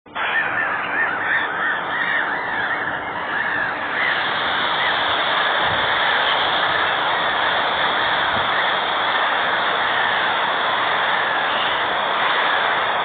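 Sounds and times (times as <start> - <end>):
gulls calling: 0.1 - 13.0
rush of sea and air: 0.1 - 13.0.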